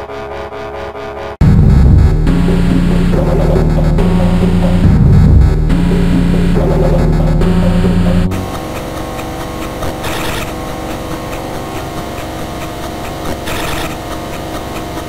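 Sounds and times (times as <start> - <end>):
harsh mechanical drone: 0.0 - 15.0.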